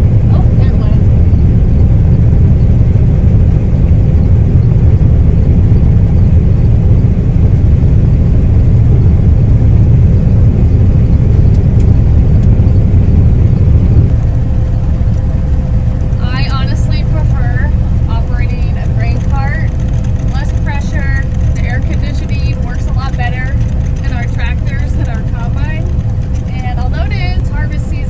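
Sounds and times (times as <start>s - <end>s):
combine harvester rumbling: 0.0s - 28.0s.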